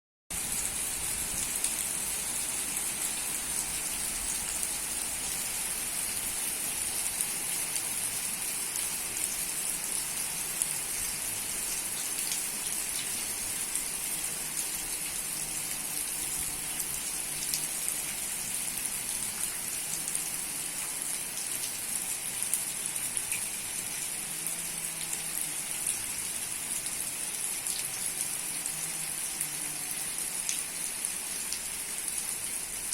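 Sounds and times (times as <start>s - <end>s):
steady rain falling: 0.3s - 32.9s.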